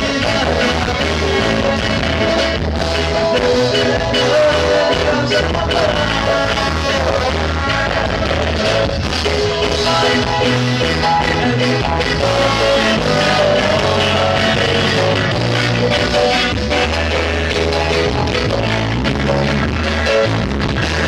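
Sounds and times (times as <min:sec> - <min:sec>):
moving bass line: 0:00.0 - 0:21.0
rock band music: 0:00.0 - 0:21.0.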